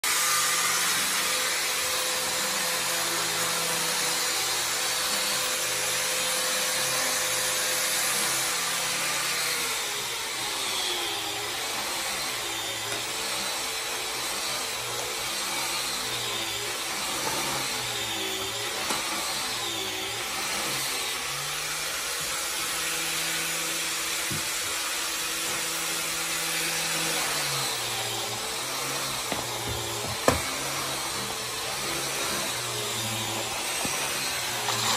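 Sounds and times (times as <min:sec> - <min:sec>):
electric power tool running: 0:00.0 - 0:34.9.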